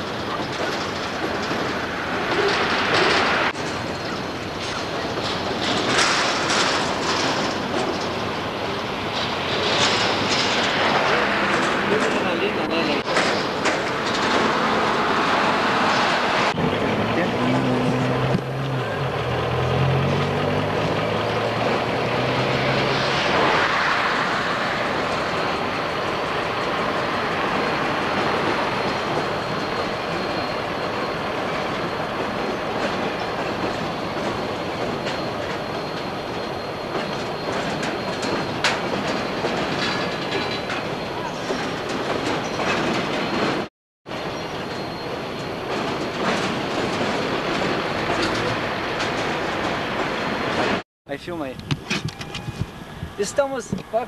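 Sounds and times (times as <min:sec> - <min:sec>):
train engine humming: 0:00.0 - 0:43.6
freight train running on tracks: 0:00.0 - 0:54.0.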